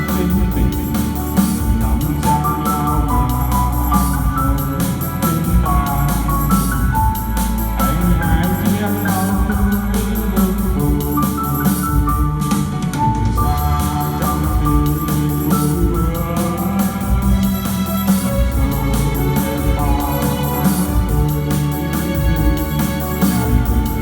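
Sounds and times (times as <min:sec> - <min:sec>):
bass and beat: 0:00.0 - 0:24.0
electronic keyboard organ melody: 0:00.0 - 0:24.0.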